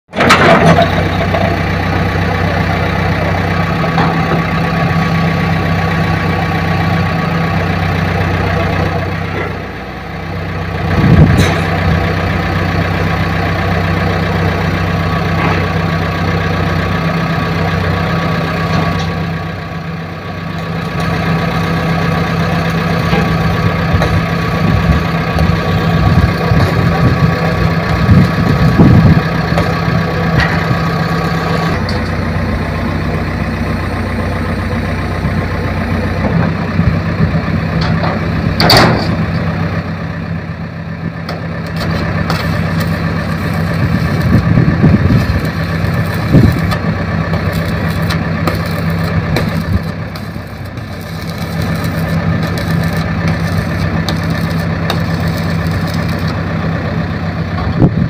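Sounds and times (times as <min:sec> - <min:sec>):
diesel engine running: 0:00.1 - 0:58.0.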